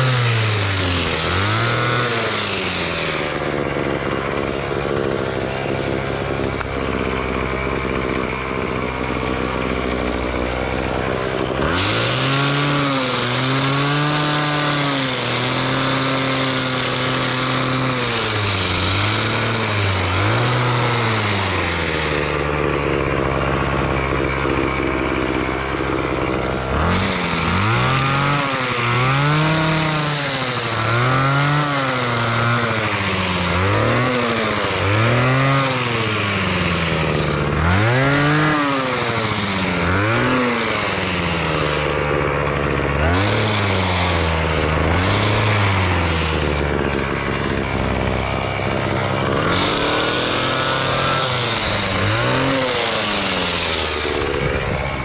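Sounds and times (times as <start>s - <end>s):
pole trimmer engine revving: 0.0s - 55.0s.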